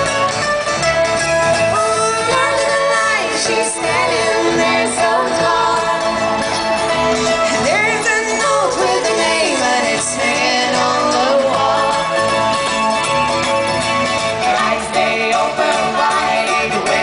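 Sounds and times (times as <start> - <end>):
live band music over loudspeakers: 0.0 - 17.0.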